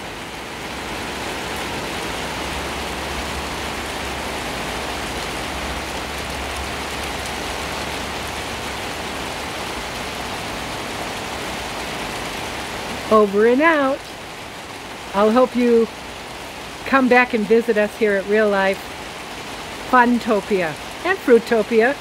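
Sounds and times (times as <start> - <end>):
heavy rain on plants and paving: 0.0 - 22.0.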